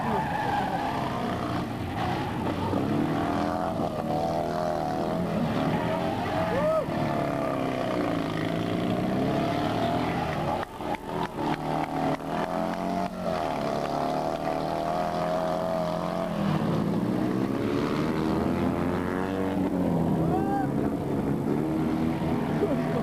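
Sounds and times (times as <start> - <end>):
small car engine revving: 0.0 - 23.0.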